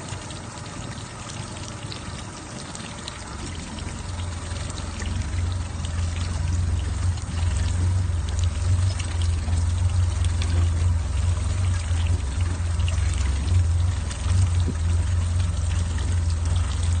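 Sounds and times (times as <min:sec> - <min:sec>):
outboard motor idling unevenly: 0:00.0 - 0:17.0
water pouring and splashing: 0:00.0 - 0:17.0.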